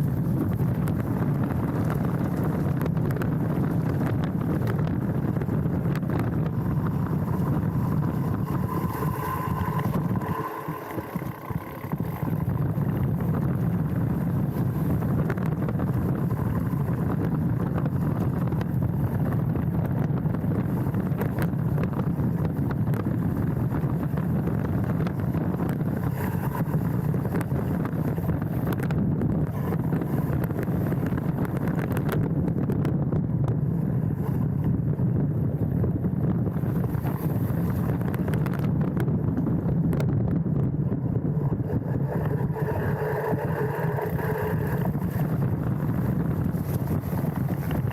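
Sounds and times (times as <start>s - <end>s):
bike rattle: 0.0s - 32.9s, 33.6s - 47.9s
bike tyres rumbling on dirt: 0.0s - 47.9s
wind on microphone: 0.0s - 47.9s.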